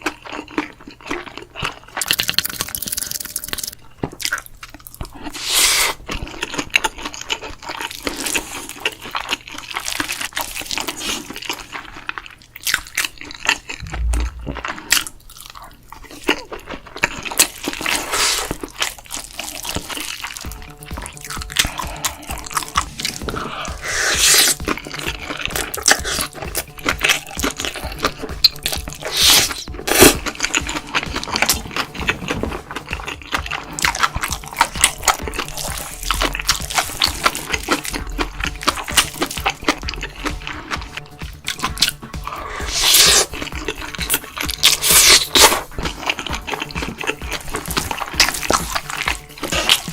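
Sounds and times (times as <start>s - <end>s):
crunchy wet chewing: 0.0s - 49.9s
quiet background music: 0.0s - 49.9s.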